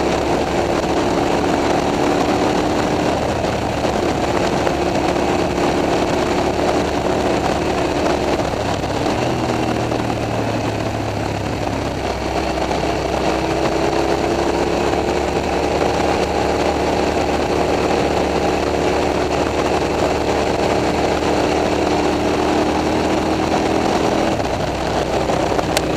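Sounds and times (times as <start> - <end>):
motorcycle engines running: 0.0 - 25.9.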